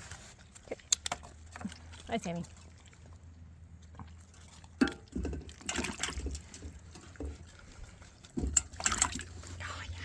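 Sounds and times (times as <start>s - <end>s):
water sloshing and dripping: 0.0s - 10.0s.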